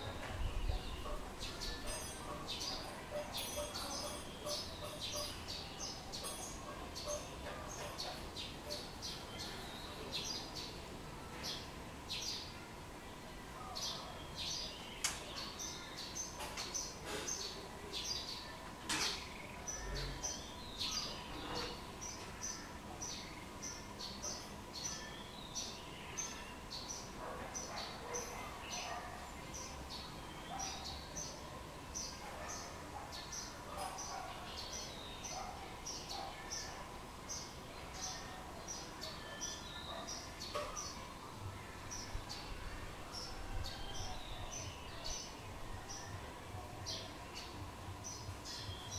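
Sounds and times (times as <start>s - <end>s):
small birds chirping: 0.0s - 12.7s, 13.6s - 48.9s.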